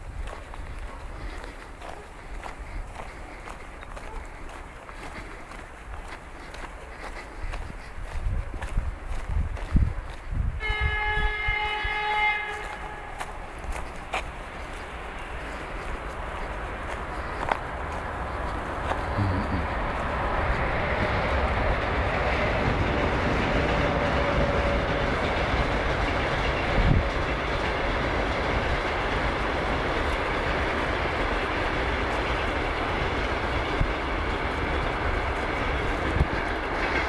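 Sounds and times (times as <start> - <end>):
train wheels rumbling on track: 0.0 - 37.0.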